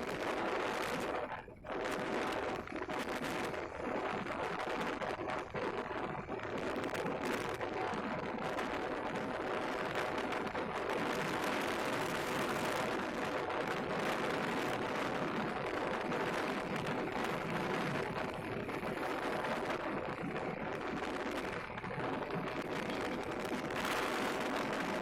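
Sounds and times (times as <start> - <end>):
faint motorcycle engine hum: 0.0 - 25.0
wind buffeting microphone: 0.0 - 25.0.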